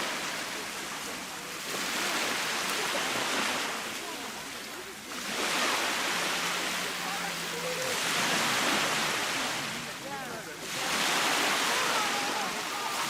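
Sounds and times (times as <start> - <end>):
waves breaking on shore: 0.0 - 13.0.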